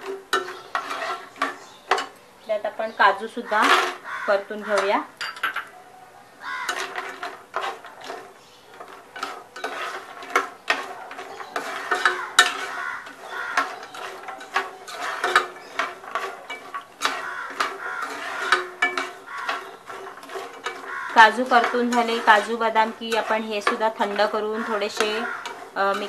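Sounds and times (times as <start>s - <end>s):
nuts clicking against pan: 0.0s - 5.7s, 6.4s - 26.0s
spoon scraping a pan: 0.0s - 5.7s, 6.4s - 26.0s.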